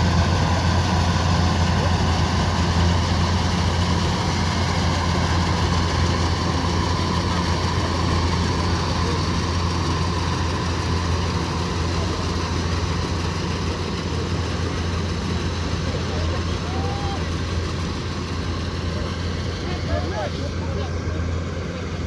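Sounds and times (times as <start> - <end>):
combine harvester diesel engine humming: 0.0 - 22.0.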